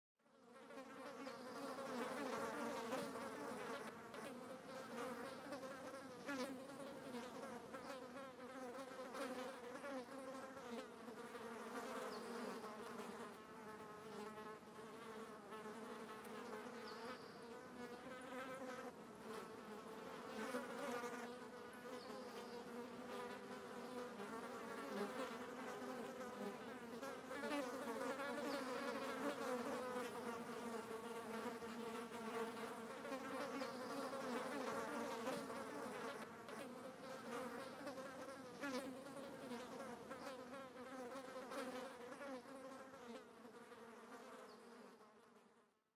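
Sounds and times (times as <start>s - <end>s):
flies buzzing: 0.4s - 45.6s.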